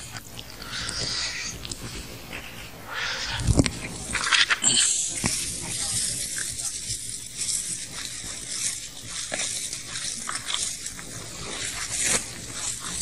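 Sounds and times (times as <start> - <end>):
recording hiss: 0.0 - 13.0.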